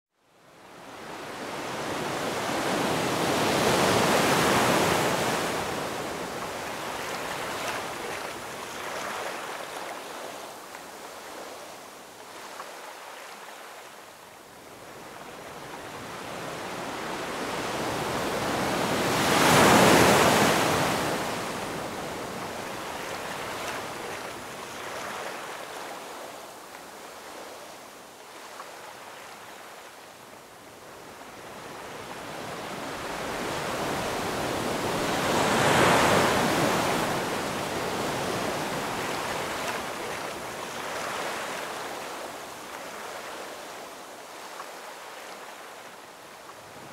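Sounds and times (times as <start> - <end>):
ocean waves washing: 0.6 - 46.9.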